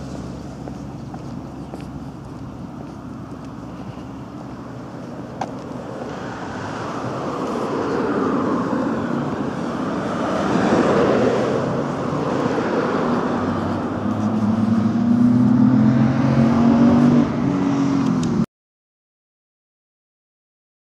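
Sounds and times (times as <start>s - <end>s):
car engine hum: 0.0s - 18.5s
cars passing close by: 0.0s - 18.5s.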